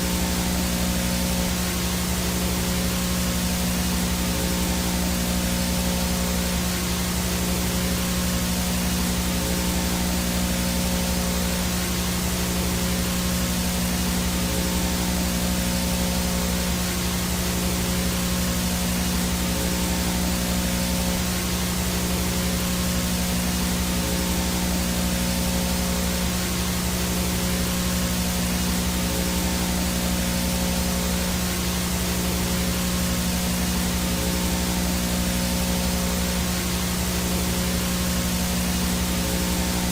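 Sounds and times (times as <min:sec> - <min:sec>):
high-pitched whine: 0:00.0 - 0:39.9
low buzzing hum: 0:00.0 - 0:39.9
static hiss: 0:00.0 - 0:39.9.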